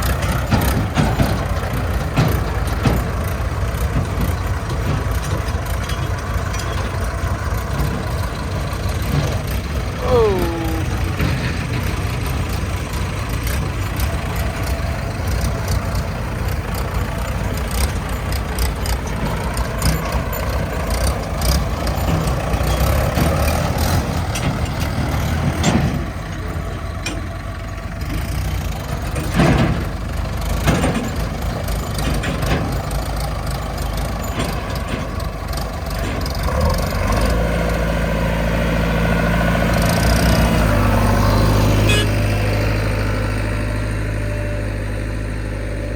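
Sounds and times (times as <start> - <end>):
diesel engines running: 0.0 - 45.9.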